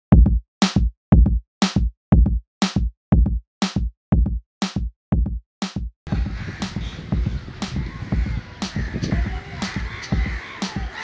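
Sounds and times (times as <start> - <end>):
drum machine kick drum: 0.1 - 10.9
drum machine snare hits: 0.2 - 10.9.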